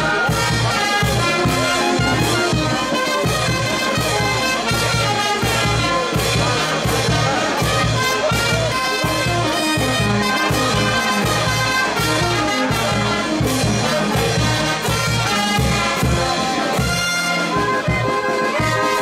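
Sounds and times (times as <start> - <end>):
brass band playing dance tune: 0.0 - 19.0.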